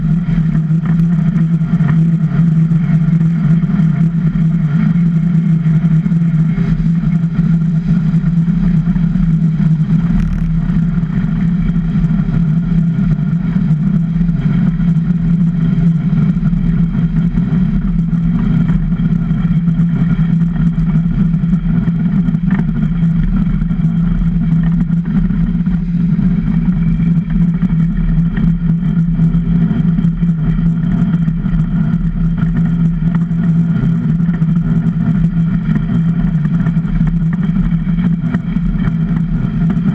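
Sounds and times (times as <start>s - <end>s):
ice boat runners on ice: 0.0s - 39.9s.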